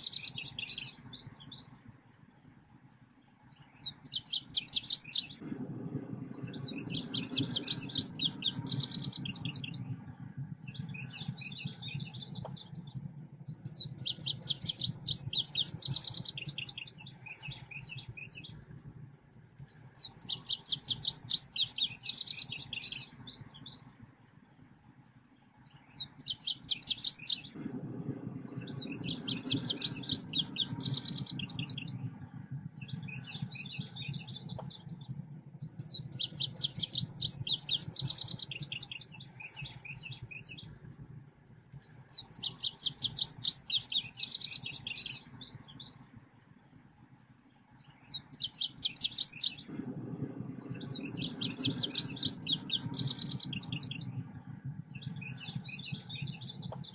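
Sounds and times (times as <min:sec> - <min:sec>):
low rumbling background: 0:00.0 - 0:56.9.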